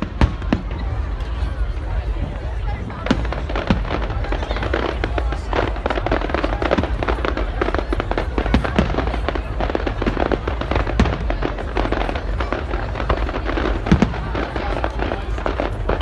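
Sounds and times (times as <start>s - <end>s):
loud firework bangs: 0.0s - 1.9s, 2.8s - 16.0s
fireworks crackling and popping: 0.0s - 16.0s.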